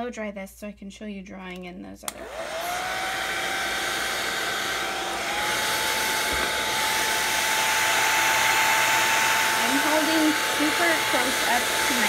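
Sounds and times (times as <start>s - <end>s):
hair dryer running: 2.1s - 12.0s.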